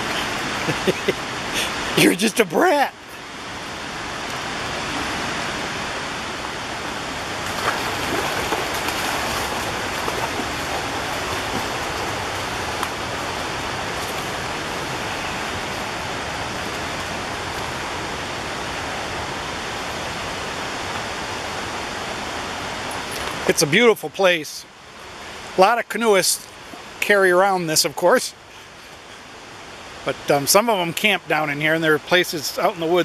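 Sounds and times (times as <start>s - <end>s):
river rushing: 0.0s - 33.0s.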